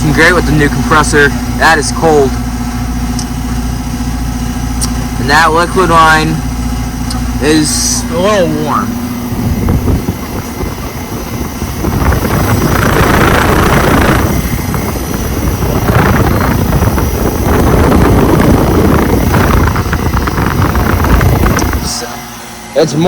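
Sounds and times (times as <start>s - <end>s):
compressor humming: 0.0s - 23.0s
condenser fan rushing air: 0.0s - 23.0s.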